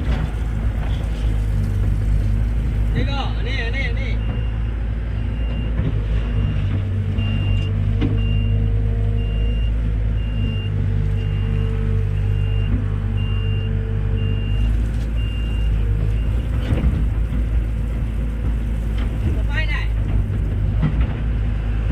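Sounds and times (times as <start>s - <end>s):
diesel machinery engine running: 0.0s - 21.9s.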